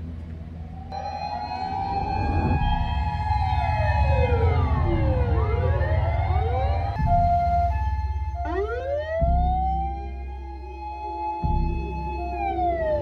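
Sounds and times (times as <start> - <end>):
emergency vehicle sirens wailing: 0.0 - 13.0
low rumble: 0.0 - 13.0.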